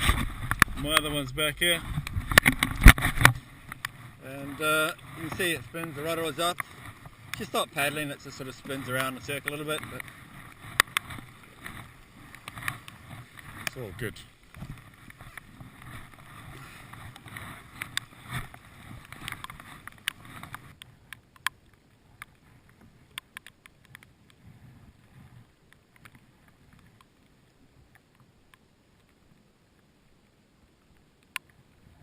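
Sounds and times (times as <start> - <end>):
water splashing around kayak: 0.0 - 32.0.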